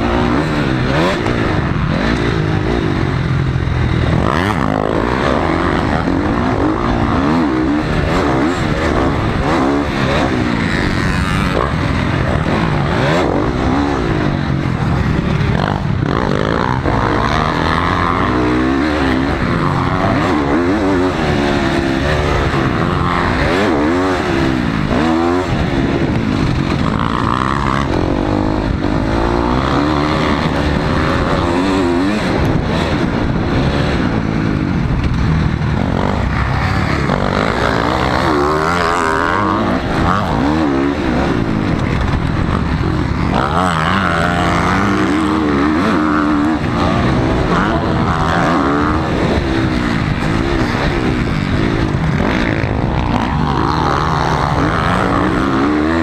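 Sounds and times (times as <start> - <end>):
dirt bike engine revving: 0.0 - 56.0
wind noise on microphone: 0.0 - 56.0.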